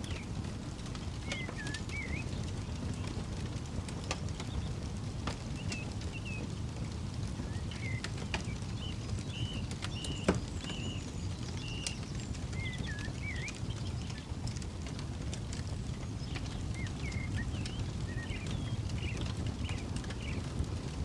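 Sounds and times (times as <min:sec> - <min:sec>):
birds chirping: 0:00.0 - 0:20.9
campfire crackling and popping: 0:00.0 - 0:21.0
low steady rumble: 0:00.0 - 0:21.0.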